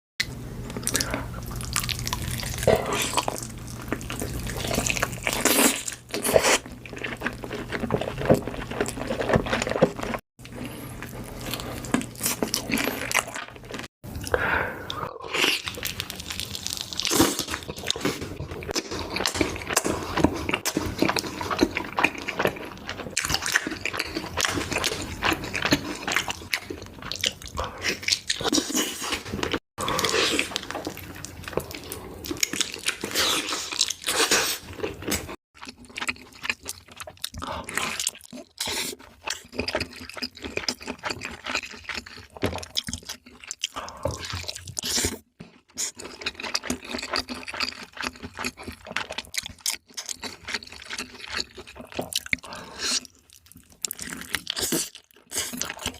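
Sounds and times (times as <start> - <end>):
person chewing food: 0.2 - 55.9.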